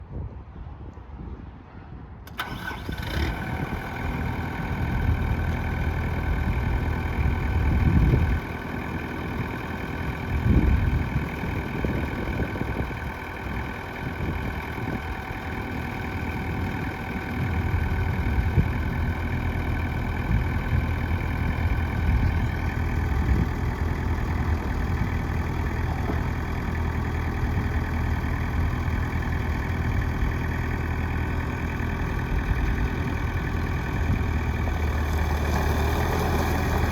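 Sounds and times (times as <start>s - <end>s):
tractor diesel engine idling: 2.2s - 36.9s.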